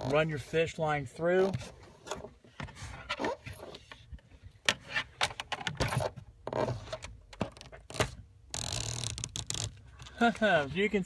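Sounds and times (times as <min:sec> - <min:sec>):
wires scraping through rubber grommet: 0:00.0 - 0:04.1, 0:04.7 - 0:11.0.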